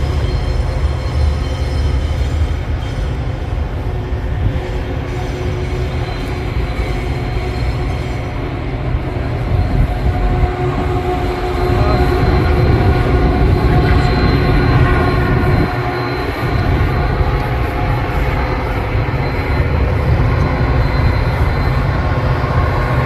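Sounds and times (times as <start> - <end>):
thin steady tones: 0.0 - 23.0
train passing rumble: 0.0 - 23.0.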